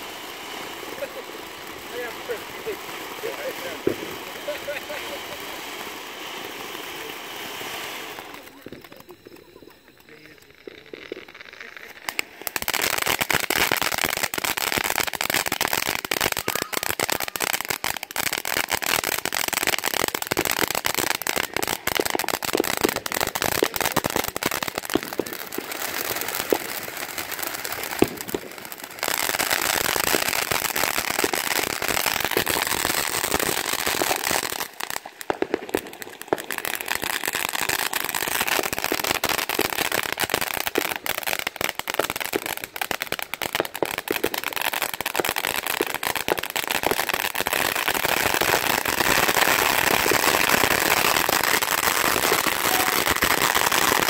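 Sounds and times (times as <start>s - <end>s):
fireworks hissing and crackling: 0.0s - 54.0s.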